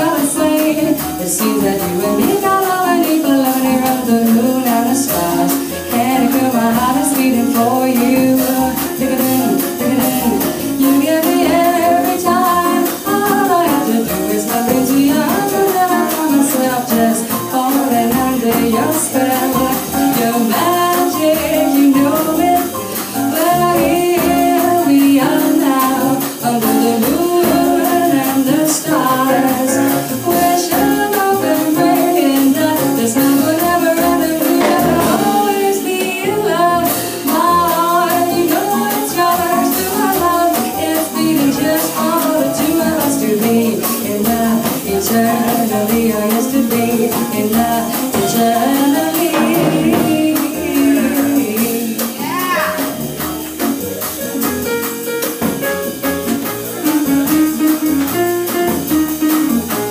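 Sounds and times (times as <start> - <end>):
woman singing: 0.0 - 53.0
jazz band playing: 0.0 - 59.9.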